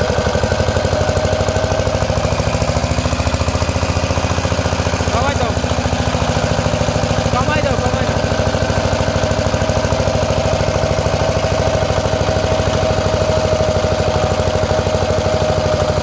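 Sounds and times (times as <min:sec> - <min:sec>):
diesel engine running: 0:00.0 - 0:16.0
generator whine: 0:00.0 - 0:16.0.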